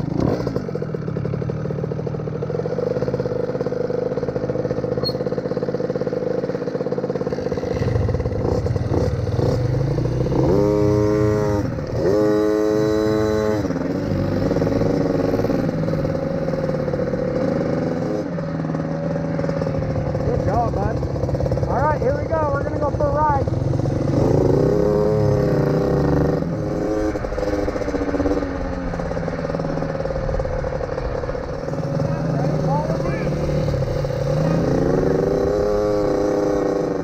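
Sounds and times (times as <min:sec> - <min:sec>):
dirt-bike engines idling and revving: 0:00.0 - 0:37.0.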